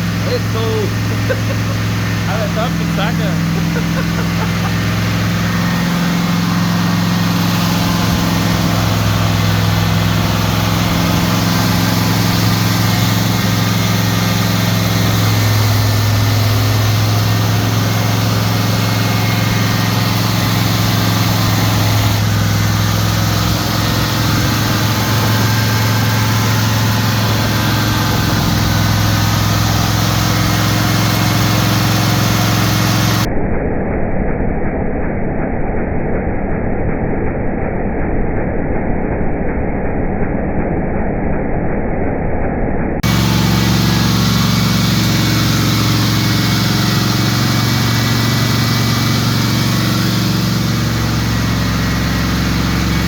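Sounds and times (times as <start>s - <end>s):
engine running at raised speed: 0.0s - 53.0s.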